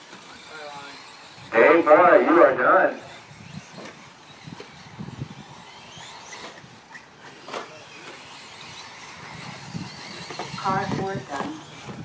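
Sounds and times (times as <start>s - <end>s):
electric rc truck motors whining: 0.0s - 12.0s.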